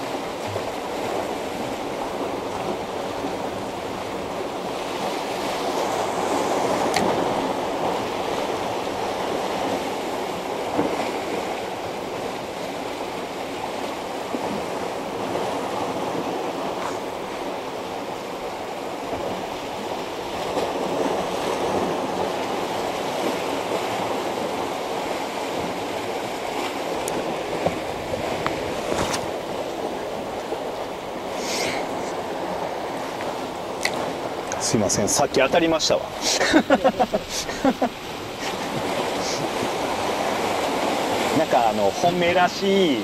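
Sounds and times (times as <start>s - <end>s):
sea waves washing against rocks: 0.0s - 43.0s.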